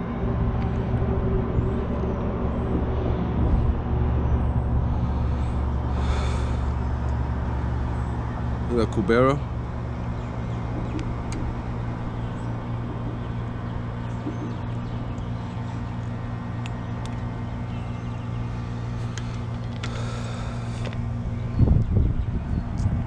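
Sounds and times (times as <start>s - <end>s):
road traffic drone: 0.0s - 23.0s.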